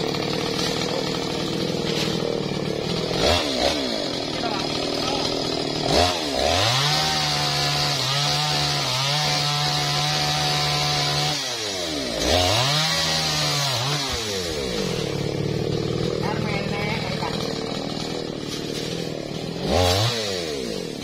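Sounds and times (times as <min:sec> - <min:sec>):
chainsaw revving while cutting wood: 0:00.0 - 0:21.0.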